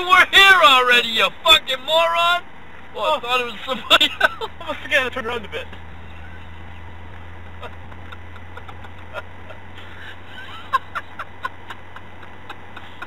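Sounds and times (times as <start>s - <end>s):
car cabin driving hum: 0.0s - 13.0s.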